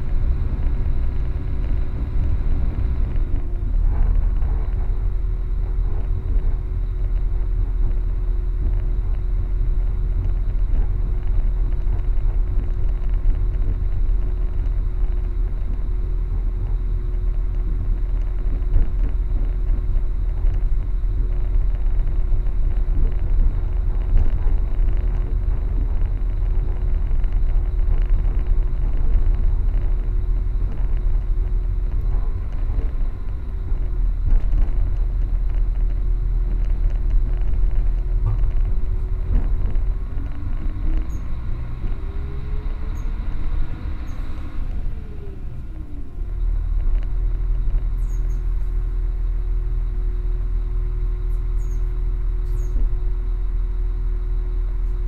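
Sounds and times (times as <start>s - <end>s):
faint steady hum: 0.0s - 55.0s
train rumble inside carriage: 0.0s - 55.0s.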